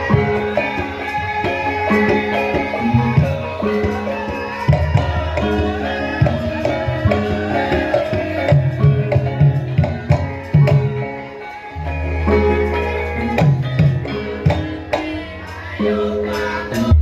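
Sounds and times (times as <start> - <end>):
hand drum strokes: 0.0 - 17.0.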